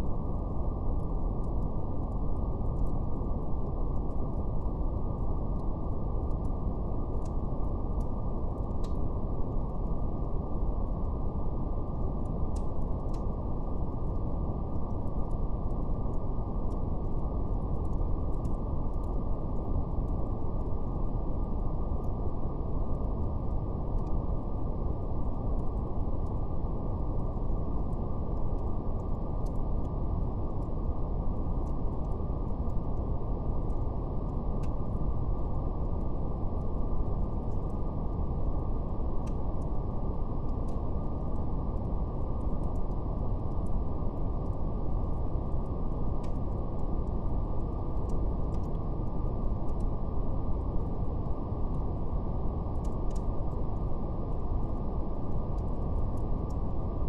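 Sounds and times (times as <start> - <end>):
deep brown noise rumble: 0.0 - 57.0
faint fire crackles: 0.0 - 57.0.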